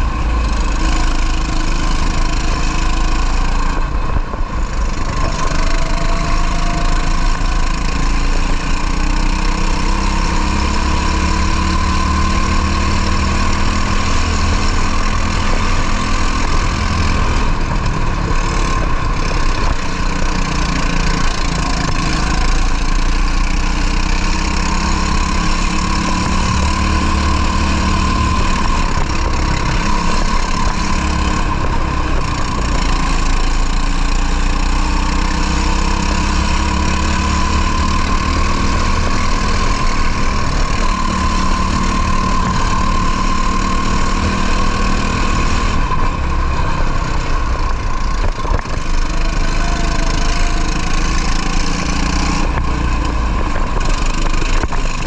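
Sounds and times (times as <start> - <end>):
racing kart engine: 0.0 - 55.0.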